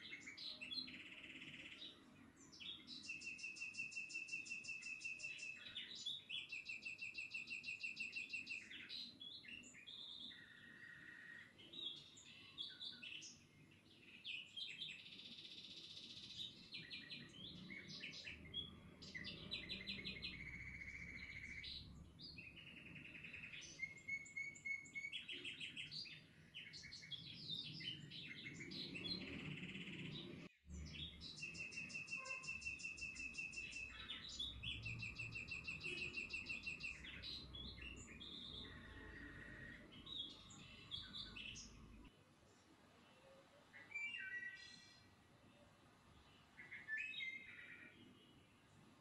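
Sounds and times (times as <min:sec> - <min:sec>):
songbirds trilling and chirping: 0:00.0 - 0:49.0.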